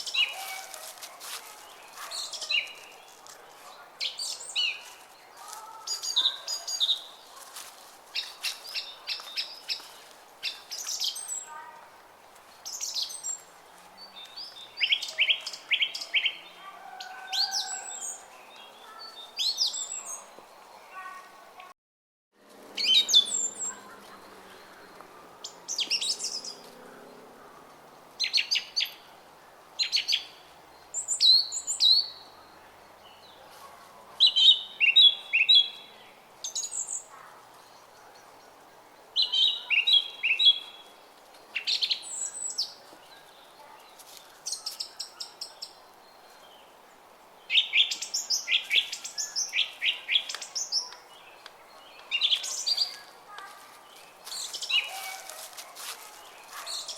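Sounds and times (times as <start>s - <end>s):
songbirds chirping: 0.0s - 21.7s, 22.4s - 56.9s.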